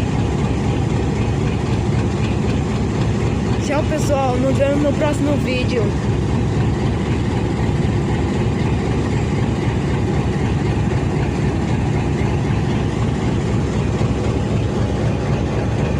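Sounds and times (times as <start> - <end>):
diesel locomotive engine rumbling: 0.0 - 15.9.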